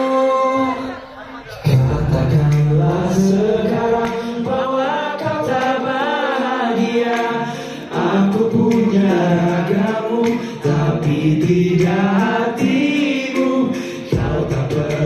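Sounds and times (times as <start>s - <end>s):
man singing into microphone: 0.0s - 15.0s
pop music: 0.0s - 15.0s.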